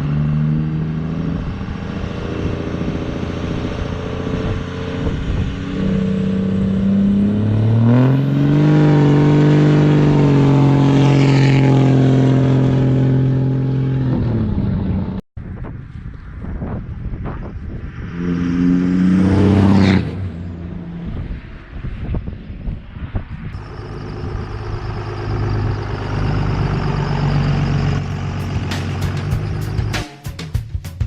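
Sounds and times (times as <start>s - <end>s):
vehicle engine revving: 0.0s - 15.2s, 17.7s - 22.3s, 23.6s - 30.0s.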